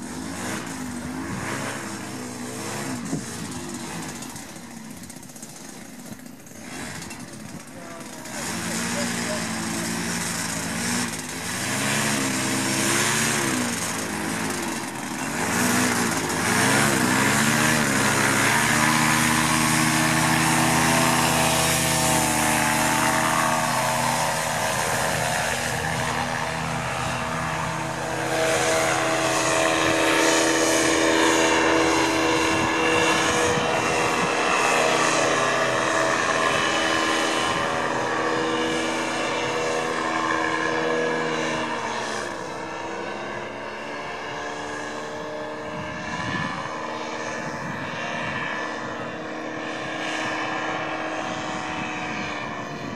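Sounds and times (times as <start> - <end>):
paramotor engine and propeller: 0.0 - 52.9.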